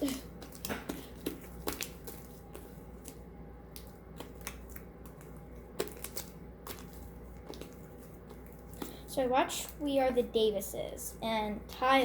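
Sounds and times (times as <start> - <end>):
slime kneaded by hand: 0.0 - 10.4.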